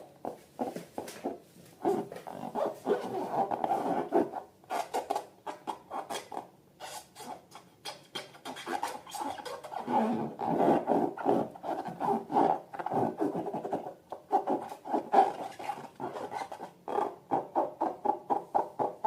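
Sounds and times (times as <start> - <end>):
rubber balloons squeaking: 0.2 - 19.0.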